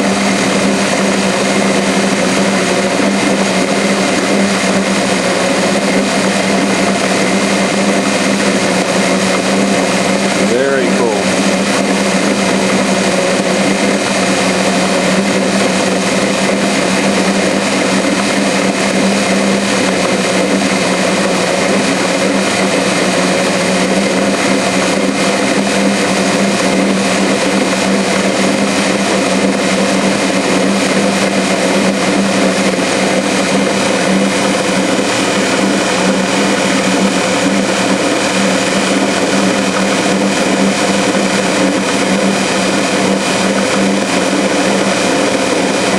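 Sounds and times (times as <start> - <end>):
metal lathe cutting: 0.0 - 45.9.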